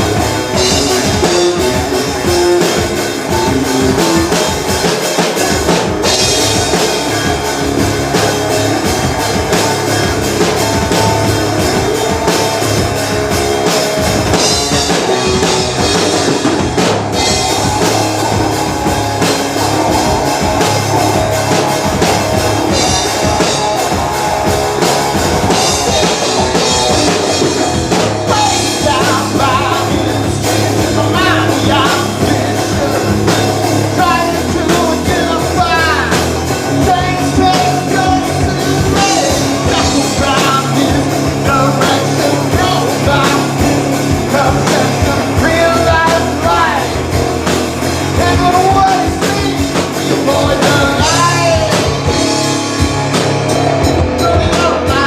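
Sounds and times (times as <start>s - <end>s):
person singing: 0.0s - 53.2s, 53.8s - 55.0s
live rock band playing: 0.0s - 55.0s.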